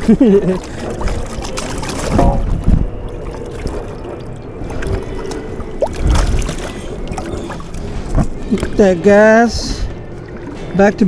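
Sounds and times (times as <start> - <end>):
wind rumble: 0.0 - 11.0.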